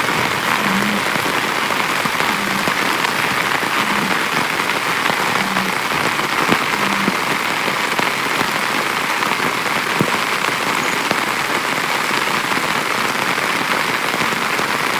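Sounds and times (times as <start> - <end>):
heavy rain on a tent: 0.0 - 14.9.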